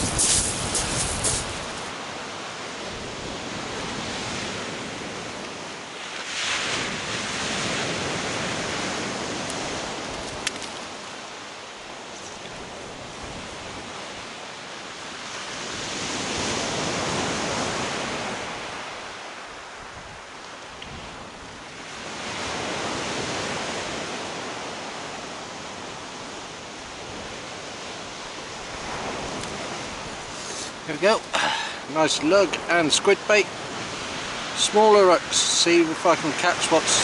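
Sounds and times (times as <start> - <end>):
waves breaking on shingle beach: 0.0 - 37.0.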